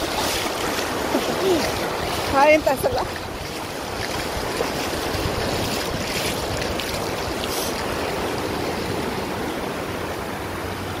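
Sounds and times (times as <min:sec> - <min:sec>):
feet splashing in water: 0:00.0 - 0:09.2
surf washing over sand: 0:00.0 - 0:11.0.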